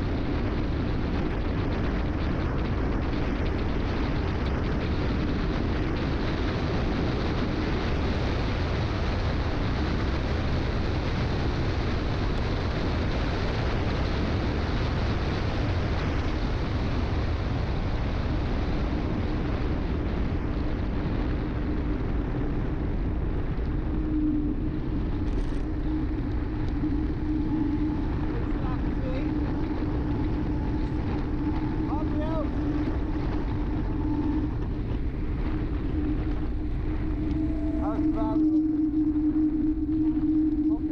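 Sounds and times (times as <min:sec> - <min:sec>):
steady hum: 0:00.0 - 0:40.9
wind buffeting microphone: 0:00.0 - 0:40.9.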